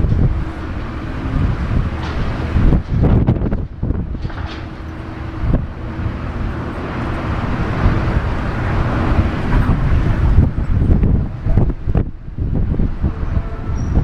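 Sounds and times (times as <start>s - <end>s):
jet engines rushing: 0.0s - 14.0s
wind buffeting microphone: 0.0s - 14.0s.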